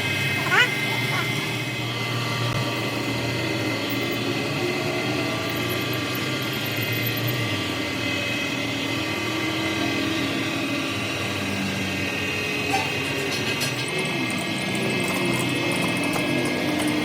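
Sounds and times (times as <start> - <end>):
machine droning: 0.0 - 17.0.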